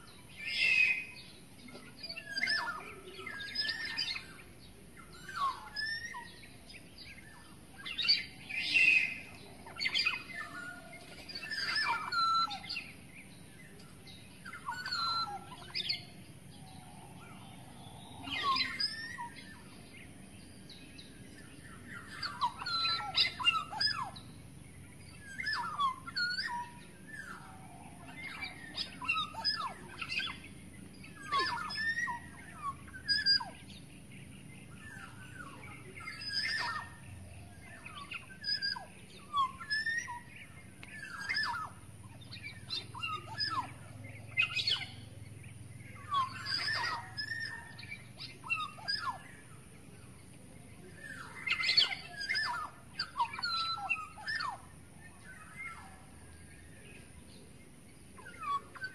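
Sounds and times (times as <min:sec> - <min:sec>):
bird whistled calls: 0:00.0 - 0:33.9, 0:34.6 - 0:49.6, 0:50.8 - 0:57.5, 0:58.2 - 0:58.9.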